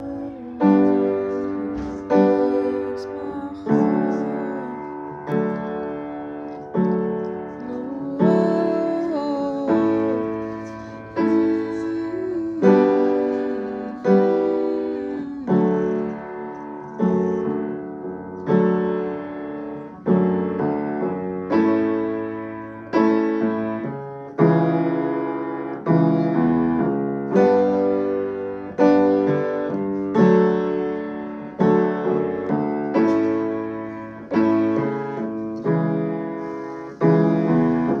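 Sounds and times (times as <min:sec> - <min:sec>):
slow piano chords: 0:00.0 - 0:38.0.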